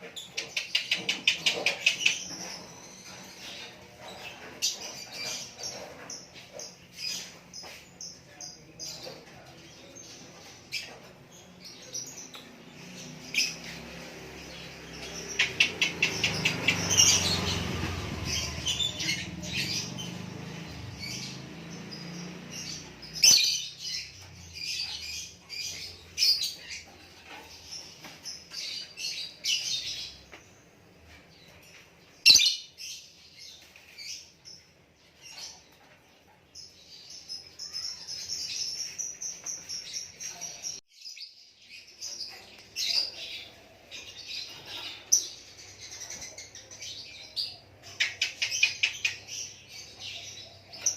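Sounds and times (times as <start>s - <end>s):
songbird chirping: 0.0s - 50.9s.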